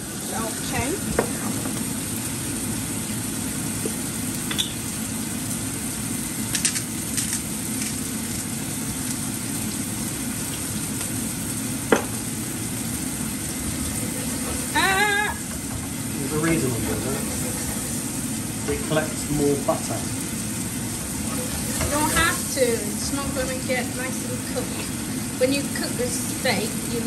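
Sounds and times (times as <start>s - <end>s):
steaks sizzling in a frying pan: 0.0s - 27.0s.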